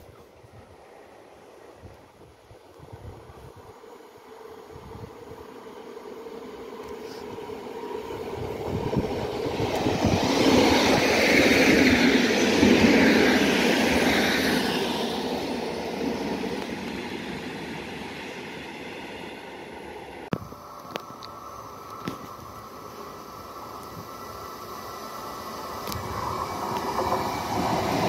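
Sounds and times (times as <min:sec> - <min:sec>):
electric train passing: 0:00.6 - 0:28.0.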